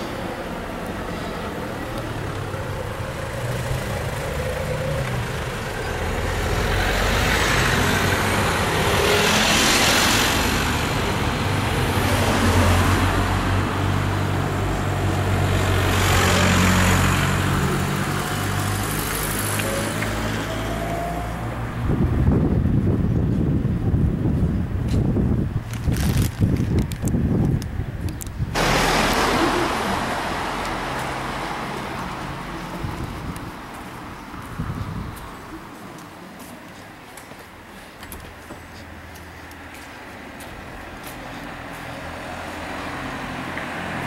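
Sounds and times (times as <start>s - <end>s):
cars driving past: 0.0s - 23.0s, 28.4s - 44.0s
car engines running: 0.0s - 36.2s.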